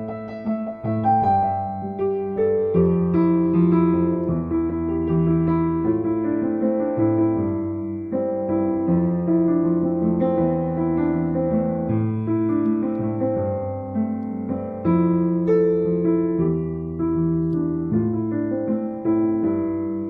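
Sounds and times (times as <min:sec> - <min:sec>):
slow solo piano music: 0:00.0 - 0:20.0.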